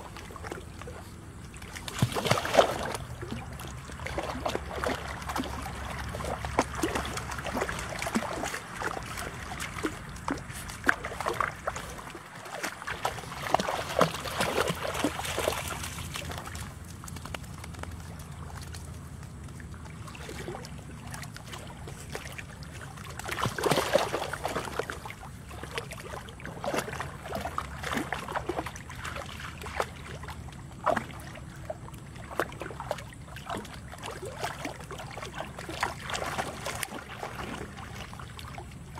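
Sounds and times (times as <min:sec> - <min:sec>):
water sloshing and splashing: 0:00.0 - 0:38.9.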